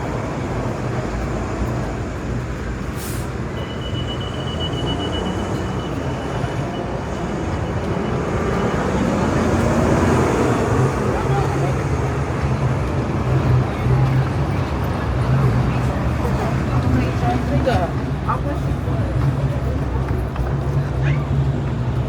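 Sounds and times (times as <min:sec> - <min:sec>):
street vehicle rumble: 0:00.0 - 0:22.0.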